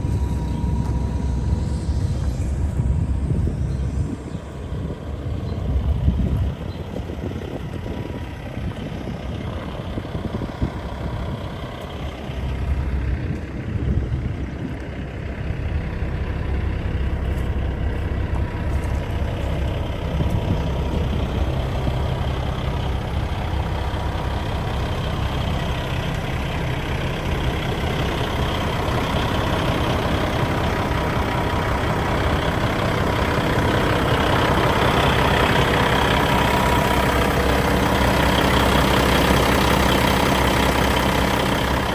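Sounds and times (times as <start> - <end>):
diesel truck engine running: 0.0 - 41.9.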